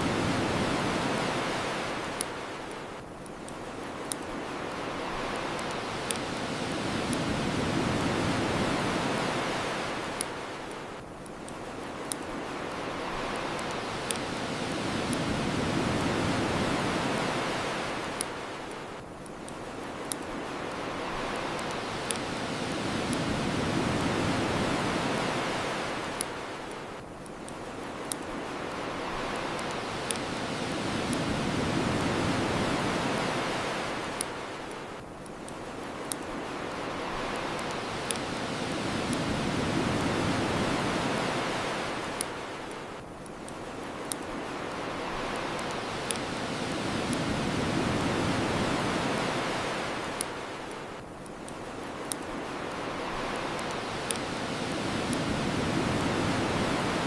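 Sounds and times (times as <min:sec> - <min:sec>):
ocean waves washing onto shore: 0:00.0 - 0:57.0
bonfire crackling pops: 0:00.1 - 0:57.0.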